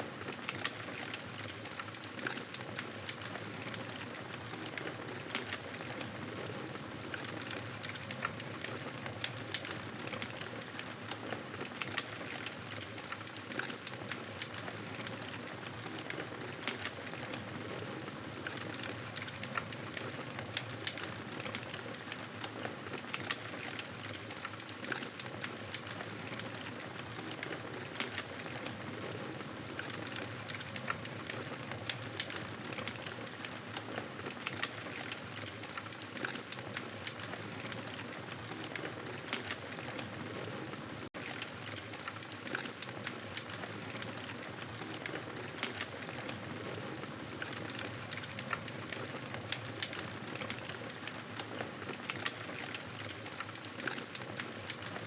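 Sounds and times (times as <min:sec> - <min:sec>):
campfire crackling and popping: 0:00.2 - 0:55.0.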